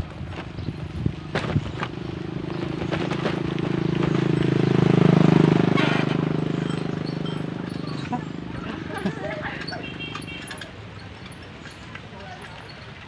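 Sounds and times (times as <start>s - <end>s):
passing vehicle engine: 0.5s - 11.9s.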